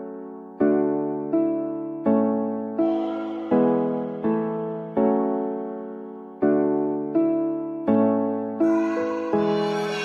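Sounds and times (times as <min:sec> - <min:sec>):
electric piano chords: 0:00.0 - 0:10.0.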